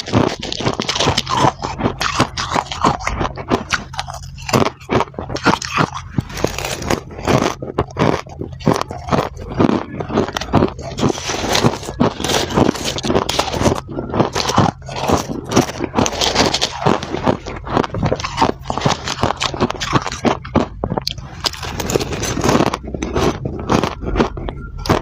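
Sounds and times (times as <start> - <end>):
frost being crunched by chewing: 0.0 - 25.0.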